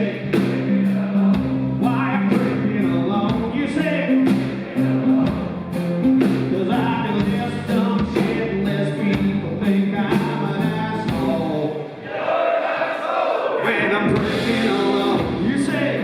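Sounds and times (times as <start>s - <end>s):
country-rock band playing: 0.0s - 11.8s, 13.6s - 16.0s
voices singing: 0.0s - 16.0s.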